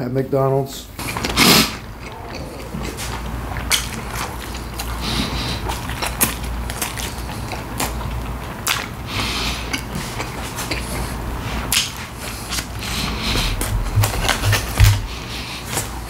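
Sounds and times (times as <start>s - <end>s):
chewing and biting: 1.0s - 16.0s.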